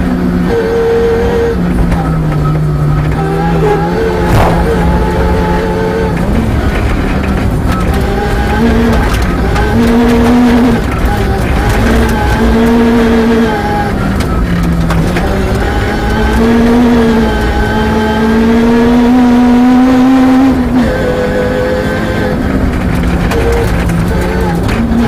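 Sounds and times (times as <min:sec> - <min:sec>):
car engine revving: 0:00.0 - 0:25.0
tyres on gravel road: 0:01.6 - 0:25.0.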